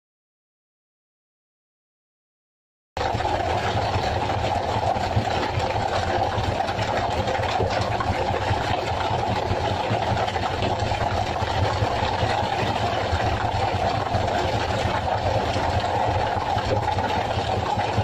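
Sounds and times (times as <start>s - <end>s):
boat engine droning: 3.0s - 18.0s.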